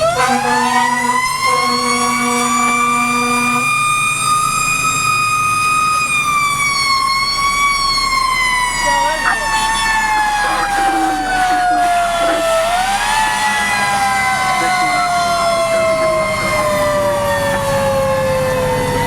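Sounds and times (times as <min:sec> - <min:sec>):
fire truck siren: 0:00.0 - 0:19.0
truck engine rumbling: 0:00.0 - 0:19.0.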